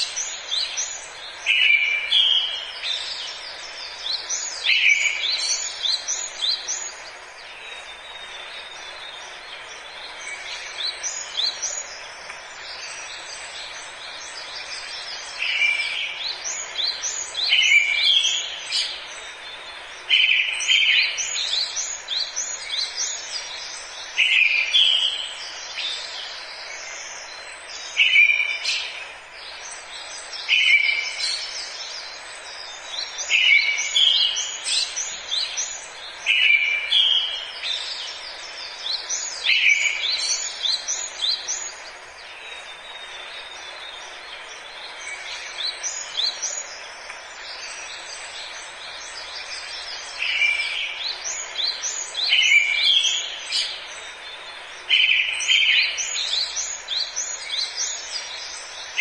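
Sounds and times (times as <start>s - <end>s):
forest ambience hiss: 0.0s - 59.0s
songbird singing: 0.0s - 59.0s.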